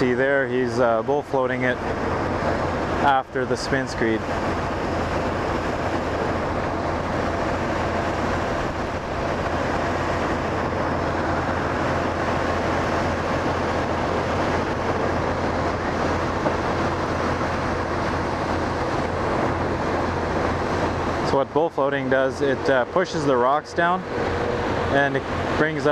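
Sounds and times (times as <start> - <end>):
constant low hum: 0.0 - 25.9
diesel machinery droning: 0.0 - 25.9.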